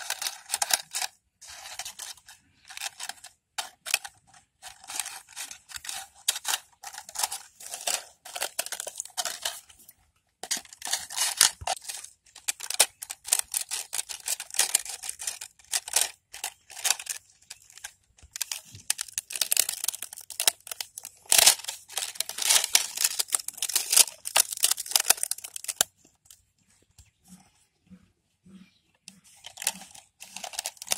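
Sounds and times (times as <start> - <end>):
plastic crackling: 0.0 - 26.4, 29.3 - 30.9.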